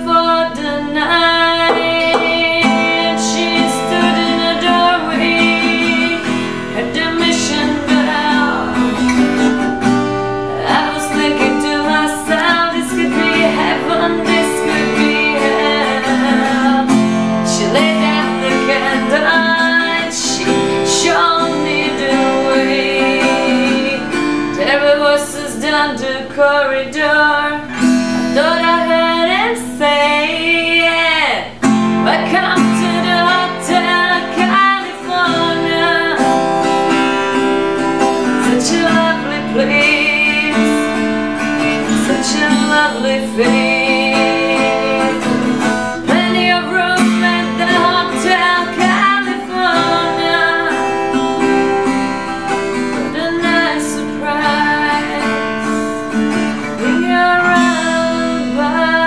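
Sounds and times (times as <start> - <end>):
acoustic guitar: 0.0 - 59.0
woman singing: 0.0 - 59.0.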